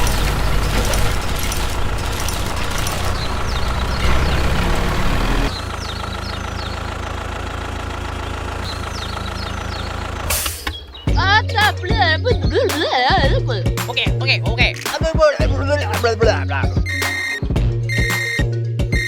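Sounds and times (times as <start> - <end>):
construction vehicle engine running: 0.0 - 19.0.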